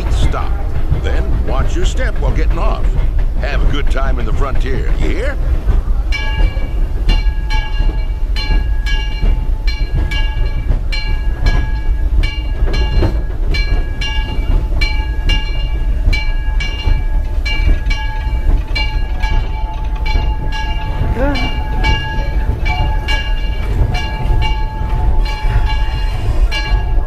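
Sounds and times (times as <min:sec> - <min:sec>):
steam locomotive bell ringing: 0:00.0 - 0:27.0
train rumbling: 0:00.0 - 0:27.0.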